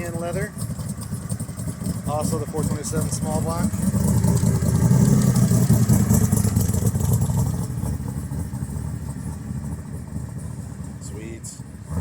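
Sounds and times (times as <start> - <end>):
car engine pulsing exhaust: 0.0 - 12.0.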